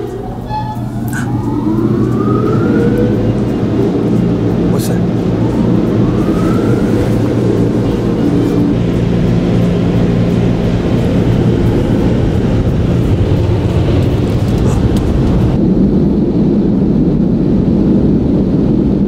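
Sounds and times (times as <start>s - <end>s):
low machinery rumble: 0.0s - 19.0s.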